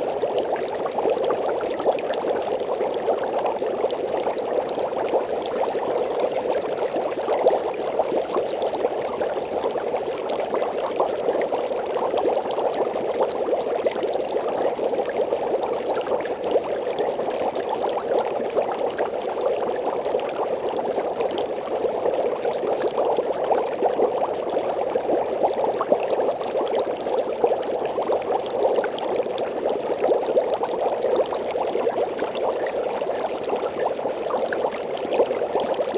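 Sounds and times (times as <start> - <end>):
water bubbling: 0.0 - 35.9.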